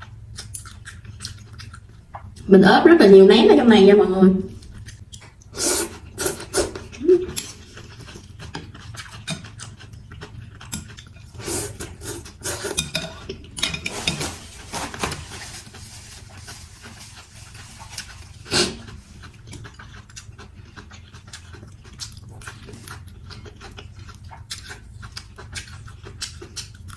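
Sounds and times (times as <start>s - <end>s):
chewing and slurping noodles: 4.6s - 26.9s.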